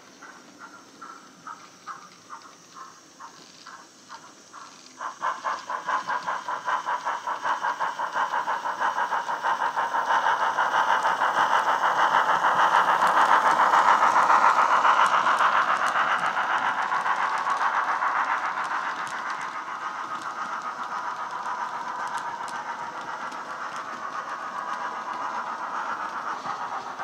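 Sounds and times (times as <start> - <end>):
model steam locomotive chuffing: 0.0 - 27.0.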